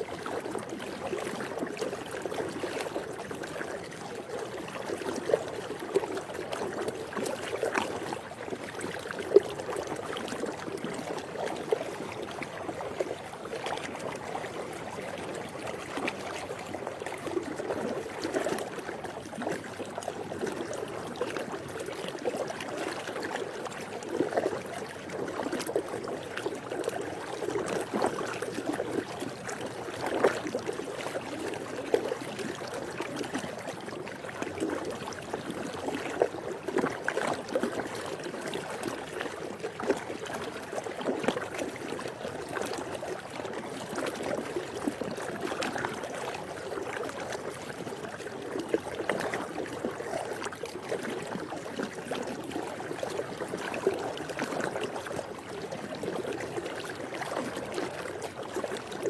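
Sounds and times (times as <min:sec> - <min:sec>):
pool water lapping and trickling: 0:00.0 - 0:59.0
small water splashes: 0:00.0 - 0:59.0.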